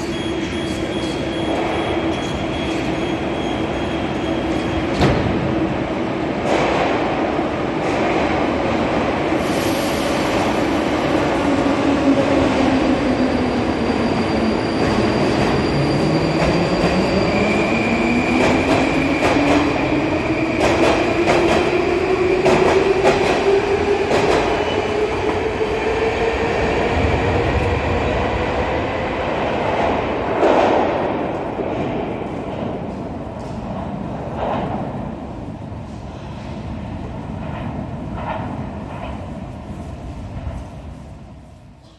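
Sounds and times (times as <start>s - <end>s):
metro train traction whine: 0.0s - 41.9s.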